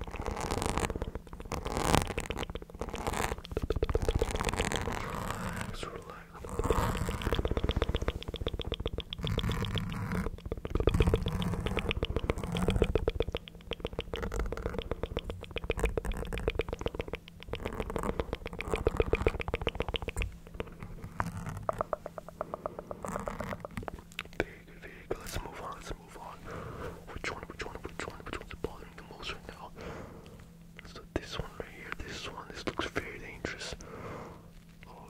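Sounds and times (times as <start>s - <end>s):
mouth clicks: 0.0s - 33.9s.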